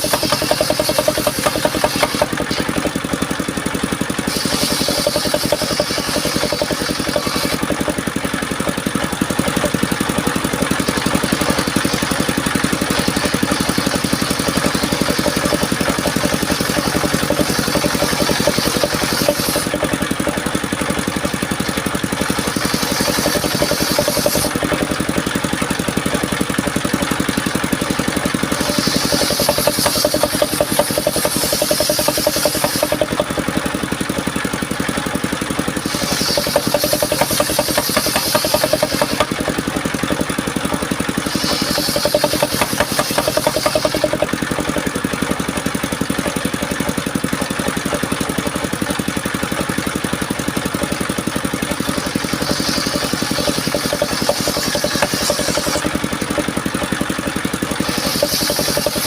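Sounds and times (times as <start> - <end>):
saw blade hissing through wood: 0.0 - 34.6, 35.4 - 49.3, 50.1 - 59.0
sawmill engine running: 0.0 - 59.0.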